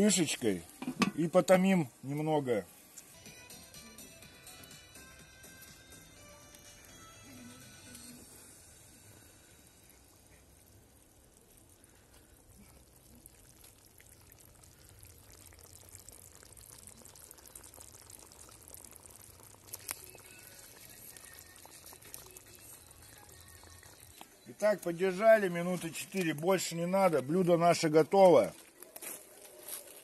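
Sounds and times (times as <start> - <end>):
stew sizzling and bubbling: 0.0 - 29.0.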